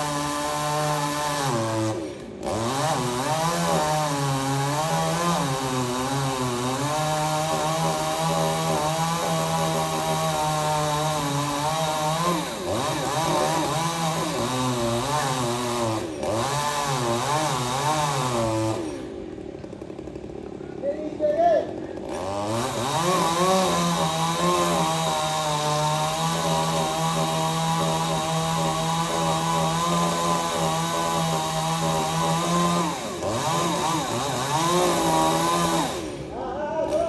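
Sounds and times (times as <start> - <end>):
chainsaw cutting: 0.0 - 37.0.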